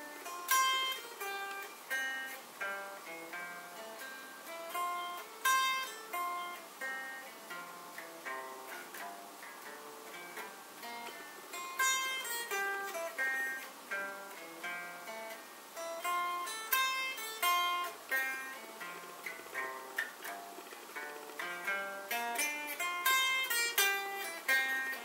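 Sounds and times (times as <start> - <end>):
electric guitar arpeggio: 0.0 - 25.0.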